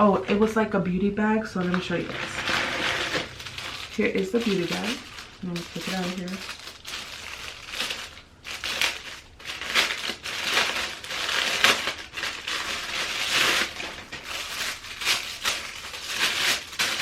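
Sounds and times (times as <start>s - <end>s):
packaging crinkling and rustling: 1.4s - 17.0s.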